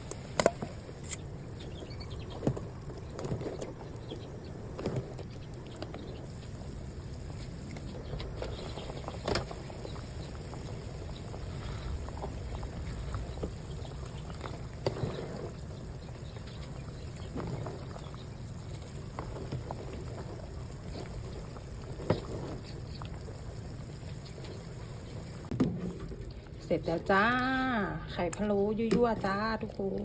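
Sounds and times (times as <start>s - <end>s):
pot bubbling at a simmer: 0.0s - 30.0s.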